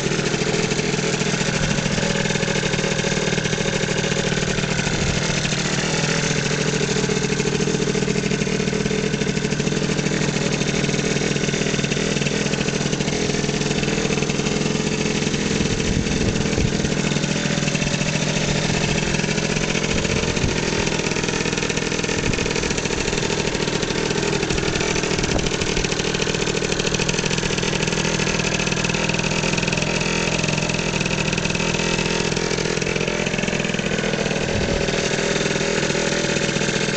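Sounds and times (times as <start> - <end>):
scooter engine idling: 0.0 - 36.9.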